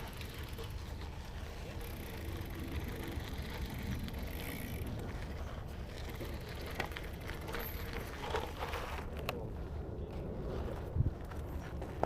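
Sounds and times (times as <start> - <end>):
bike tyres rumbling on road: 0.0 - 12.0.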